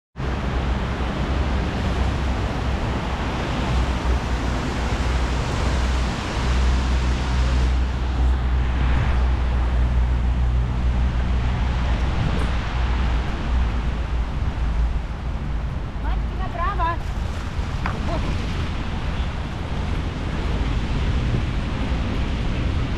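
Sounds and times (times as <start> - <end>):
deep rumble: 0.2 - 22.9
wind rushing over microphone: 0.2 - 22.9.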